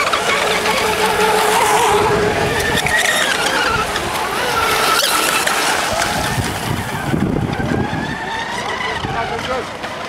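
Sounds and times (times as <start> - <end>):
rc boat motors whining: 0.0 - 10.0.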